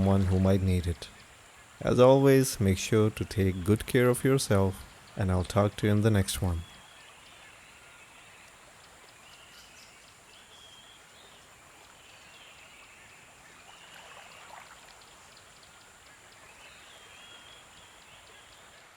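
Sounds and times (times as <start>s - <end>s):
birds chirping: 0.0s - 18.8s
running water: 0.0s - 18.9s.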